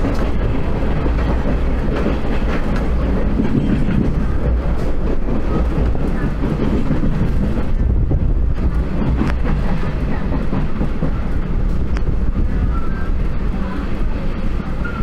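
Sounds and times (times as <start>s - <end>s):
electric train rumbling: 0.0s - 15.0s
train wheels clicking: 0.0s - 15.0s.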